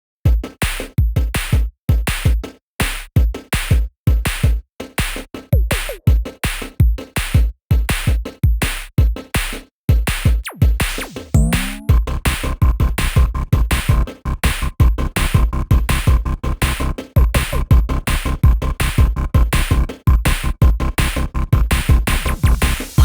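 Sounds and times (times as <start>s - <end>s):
drum machine beat: 0.3s - 23.0s.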